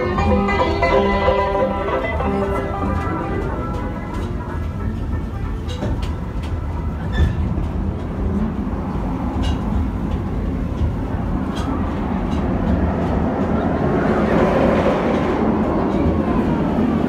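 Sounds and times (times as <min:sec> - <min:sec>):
train car rumbling on track: 0:00.0 - 0:17.0
wheels clicking and clanking: 0:00.0 - 0:17.0.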